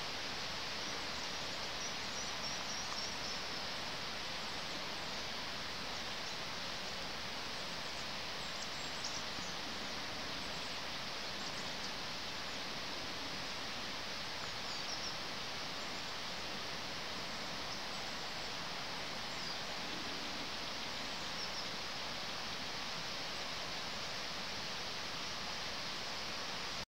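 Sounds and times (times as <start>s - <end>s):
steady outdoor hiss: 0.0s - 26.9s.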